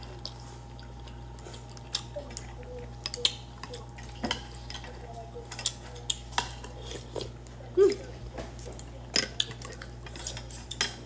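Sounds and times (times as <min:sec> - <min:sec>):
wet chewing sounds: 0:00.0 - 0:11.0.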